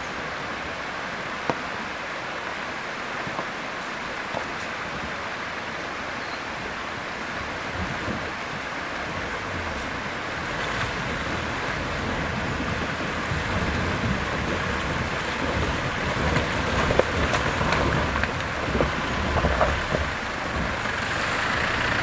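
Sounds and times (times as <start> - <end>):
truck engine rumble: 0.0 - 22.0
water rushing and splashing: 0.0 - 22.0.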